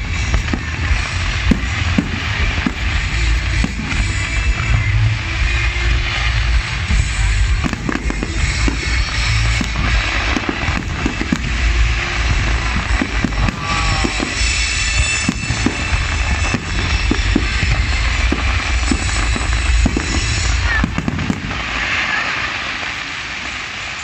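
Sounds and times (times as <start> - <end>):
deep rumble: 0.0 - 23.8
fireworks bangs and crackling: 0.0 - 24.0
loud music: 0.0 - 24.0.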